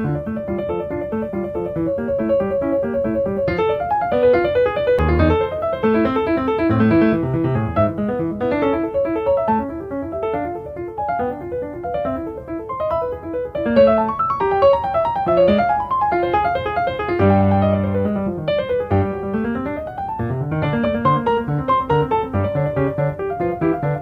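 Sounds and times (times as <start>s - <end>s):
piano music with quick notes: 0.0s - 24.0s.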